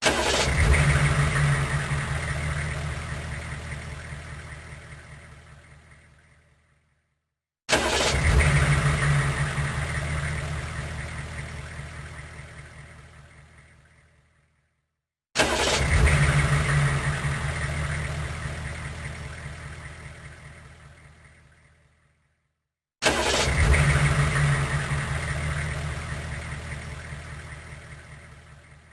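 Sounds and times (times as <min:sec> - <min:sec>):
truck engine idling: 0:00.0 - 0:06.6, 0:07.9 - 0:14.2, 0:15.4 - 0:22.0, 0:23.2 - 0:28.9.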